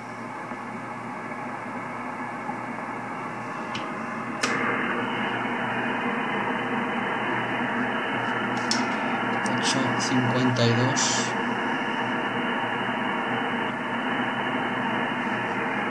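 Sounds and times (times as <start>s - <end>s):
shortwave radio hiss: 2.4s - 15.9s.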